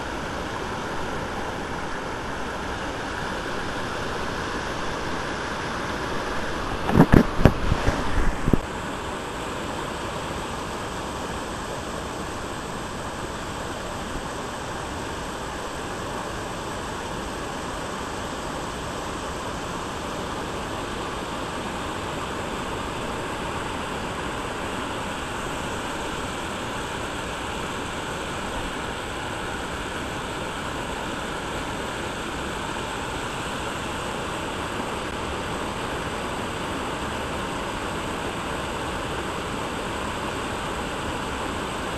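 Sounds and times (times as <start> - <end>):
waterfall rushing over rocks: 0.0 - 41.9.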